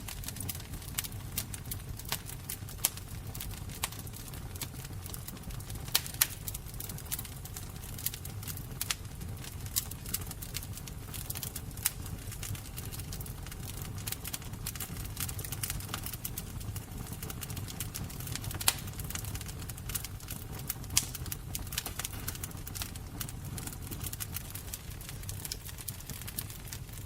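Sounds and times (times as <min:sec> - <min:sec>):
fire crackling: 0:00.0 - 0:27.0
fire popping loudly: 0:00.0 - 0:27.0.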